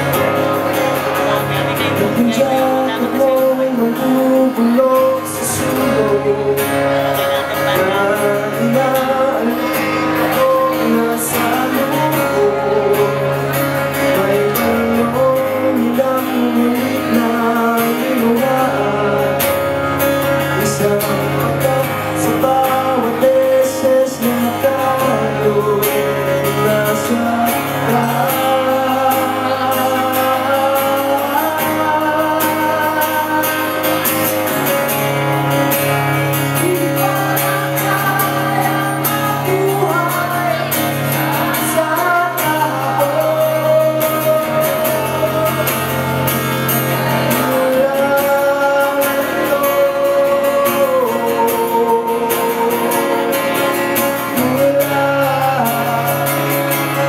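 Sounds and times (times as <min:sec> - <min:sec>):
acoustic guitar strumming: 0:00.0 - 0:57.0
man singing into a microphone: 0:00.0 - 0:57.0.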